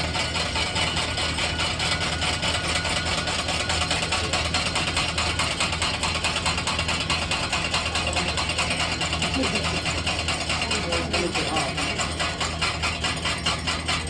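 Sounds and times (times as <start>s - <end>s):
ceiling fan rattling: 0.0s - 14.0s.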